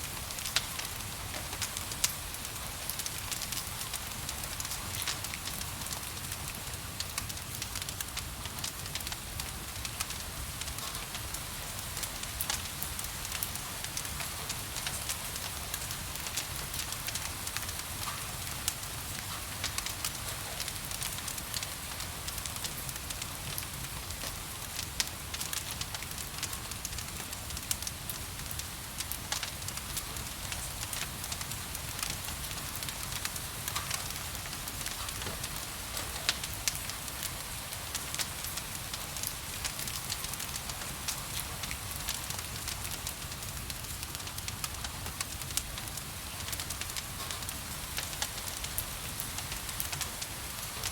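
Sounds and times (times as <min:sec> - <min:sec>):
rain hiss: 0:00.0 - 0:50.9
wood fire crackling and popping: 0:00.1 - 0:50.9.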